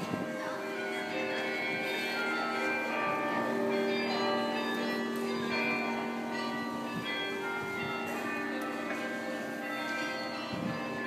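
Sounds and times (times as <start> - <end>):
carillon bells ringing a tune: 0.0 - 11.0.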